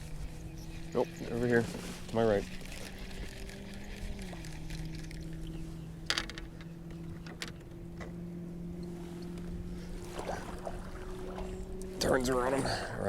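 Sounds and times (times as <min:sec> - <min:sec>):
electric motor humming: 0:00.0 - 0:12.5.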